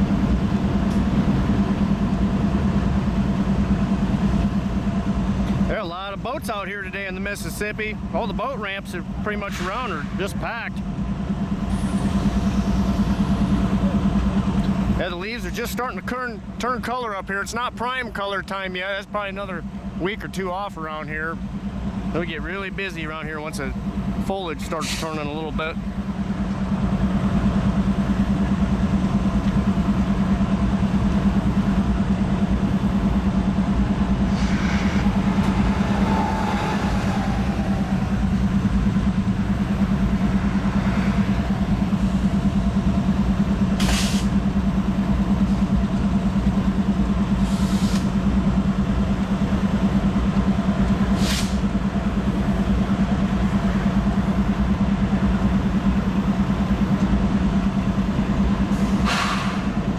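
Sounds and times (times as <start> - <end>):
large engine droning: 0.0 - 59.9.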